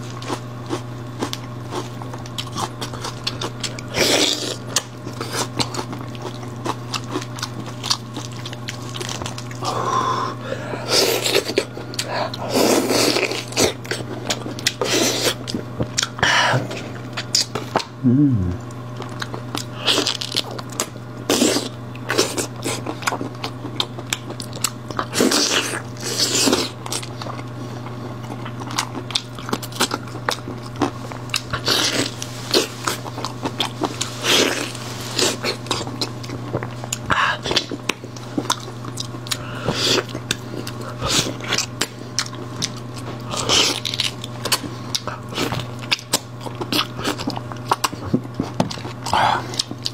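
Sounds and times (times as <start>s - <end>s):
man chewing and slurping: 0.0s - 49.9s.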